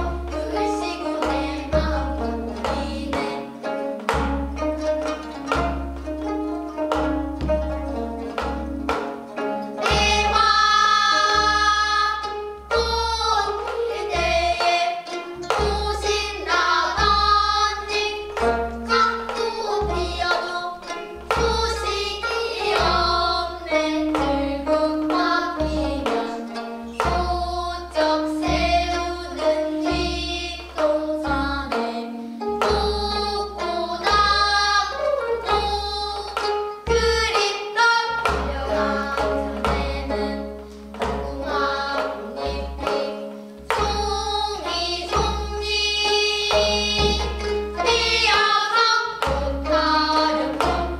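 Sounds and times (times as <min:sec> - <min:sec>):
young singers in unison: 0:00.0 - 0:03.8, 0:09.6 - 0:50.9
plucked zither strings: 0:00.0 - 0:50.9.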